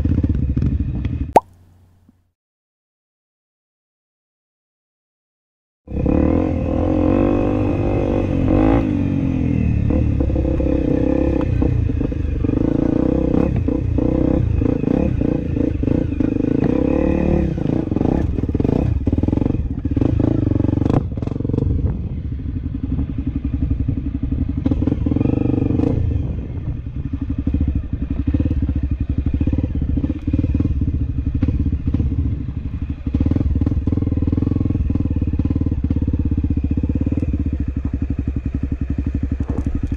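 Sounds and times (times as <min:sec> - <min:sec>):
motorcycle engine running: 0:00.0 - 0:02.2, 0:05.9 - 0:39.9.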